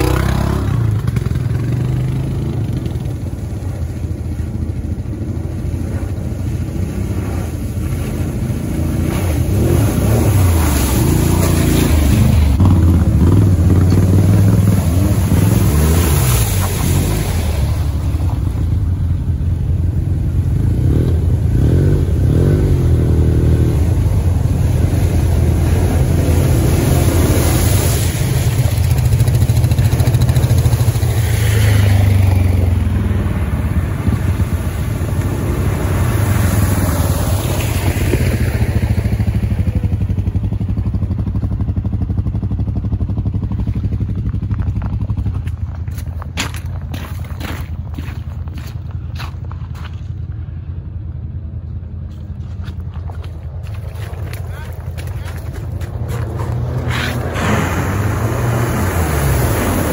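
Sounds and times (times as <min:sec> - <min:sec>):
water splashing through mud: 0:00.0 - 0:40.8, 0:43.1 - 0:50.3, 0:52.0 - 0:59.9
atv engines revving: 0:00.0 - 0:49.4, 0:50.0 - 0:59.9.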